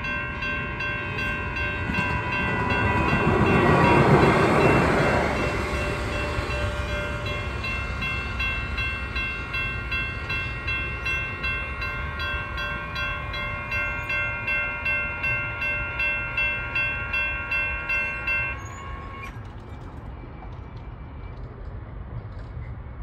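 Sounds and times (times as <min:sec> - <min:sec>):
railroad crossing bell ringing: 0:00.0 - 0:19.4.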